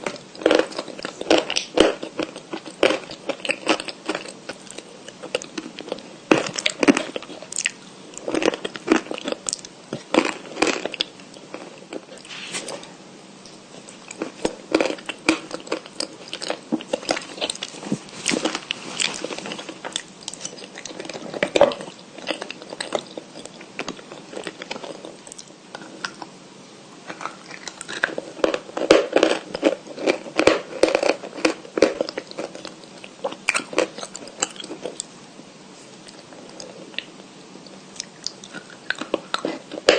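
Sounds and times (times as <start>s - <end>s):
person chewing crunchy chalk: 0.0s - 26.3s, 27.0s - 35.1s, 35.9s - 39.9s.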